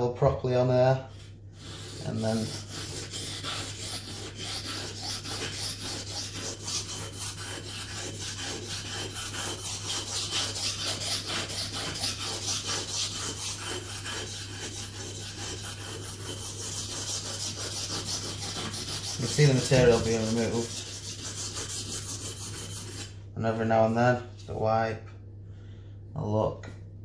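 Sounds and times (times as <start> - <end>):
knife rasping on whetstone: 1.1 - 23.2.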